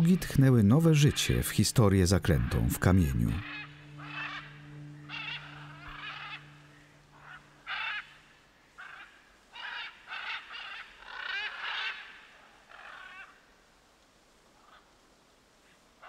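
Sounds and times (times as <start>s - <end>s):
macaws squawking: 0.0s - 13.4s.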